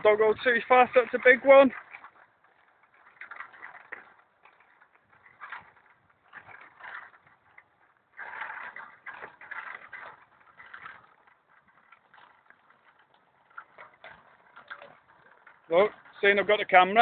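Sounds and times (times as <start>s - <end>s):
small bicycle rattling on pavement: 0.0s - 17.0s.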